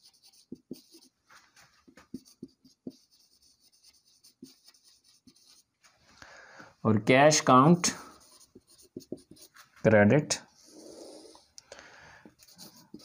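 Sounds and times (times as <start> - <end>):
marker scratching on whiteboard: 0.0 - 6.0, 7.3 - 11.5, 12.2 - 13.0.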